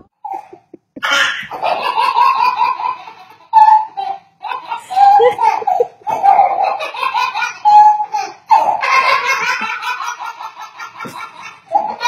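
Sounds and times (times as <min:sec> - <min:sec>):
baby laughing: 0:00.0 - 0:12.0.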